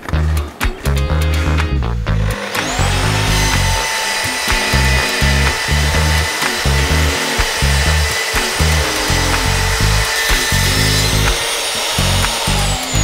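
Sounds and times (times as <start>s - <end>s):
music with pulsing bass: 0.0s - 11.4s
plunge saw cutting panel: 2.1s - 13.0s.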